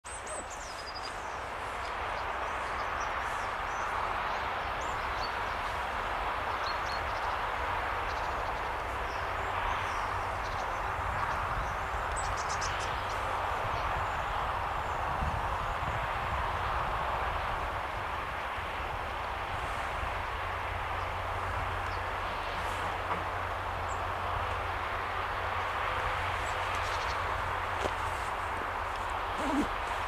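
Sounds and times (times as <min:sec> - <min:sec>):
train rumble and hiss: 0:00.1 - 0:30.0.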